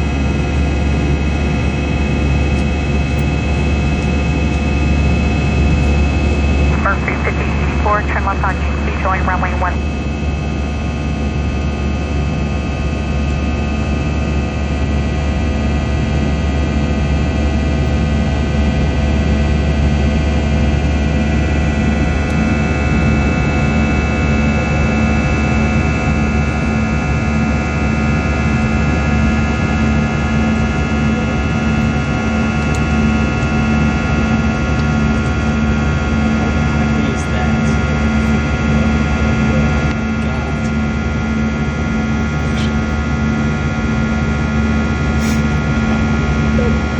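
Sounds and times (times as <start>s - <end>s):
jet engine drone in cabin: 0.0s - 46.9s
multi-tone engine whine: 0.0s - 46.9s.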